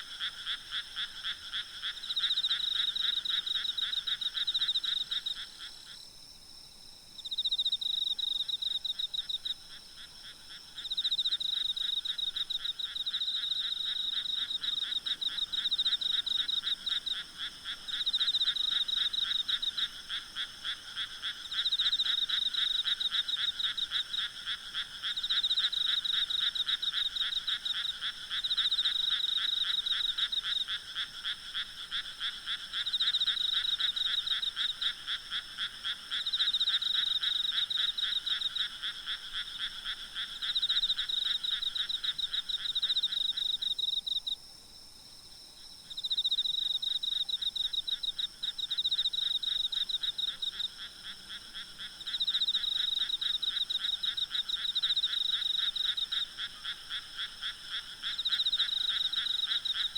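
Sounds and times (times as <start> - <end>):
frogs croaking in trills: 0.0 - 59.9
insects trilling: 7.2 - 59.9.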